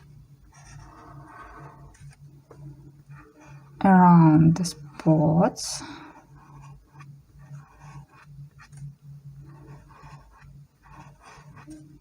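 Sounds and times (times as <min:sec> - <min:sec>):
colouring tool scratching paper: 0:00.0 - 0:12.0.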